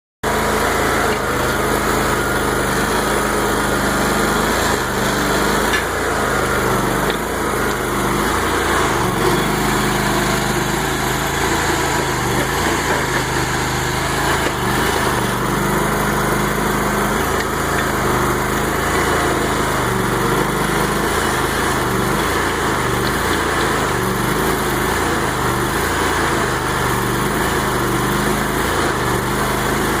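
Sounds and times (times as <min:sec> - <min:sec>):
small backhoe engine running: 0:00.2 - 0:30.0.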